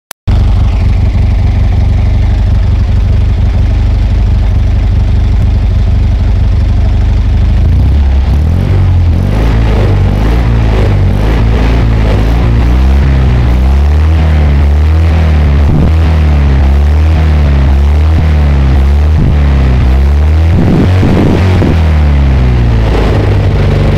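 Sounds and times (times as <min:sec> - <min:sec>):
car engine idling and revving: 0:00.3 - 0:23.9.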